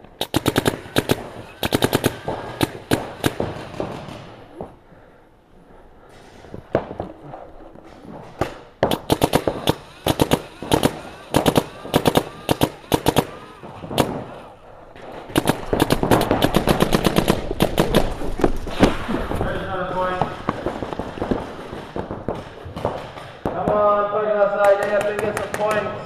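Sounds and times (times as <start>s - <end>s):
paintball guns firing sharp pops: 0.0s - 4.8s, 6.7s - 23.8s, 24.5s - 25.9s.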